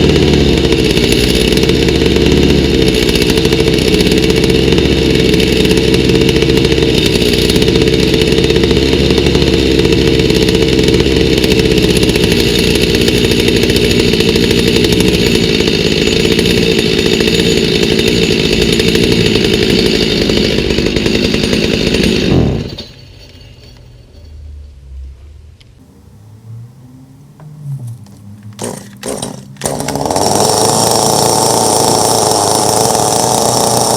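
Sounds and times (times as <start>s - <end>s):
chainsaw engine running: 0.0s - 22.9s, 25.8s - 33.9s.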